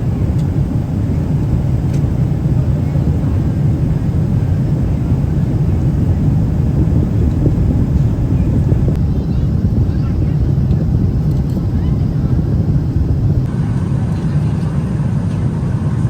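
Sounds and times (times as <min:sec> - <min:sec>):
low rumble of aircraft engines: 0:00.0 - 0:16.0.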